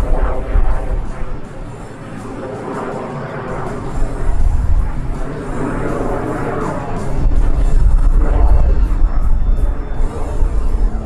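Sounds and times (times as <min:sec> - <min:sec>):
jet passing overhead: 0:00.0 - 0:11.0
music over loudspeakers: 0:00.0 - 0:11.0.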